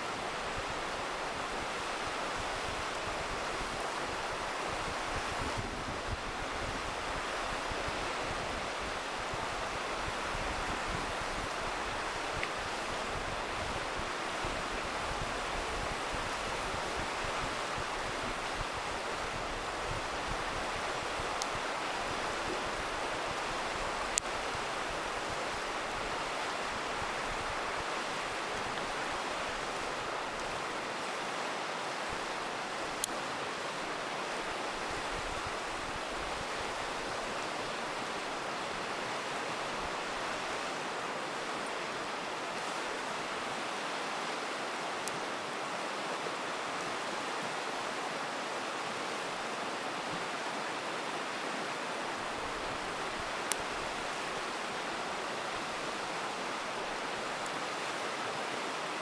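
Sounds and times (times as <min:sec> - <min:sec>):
river running over rocks: 0:00.0 - 0:59.0.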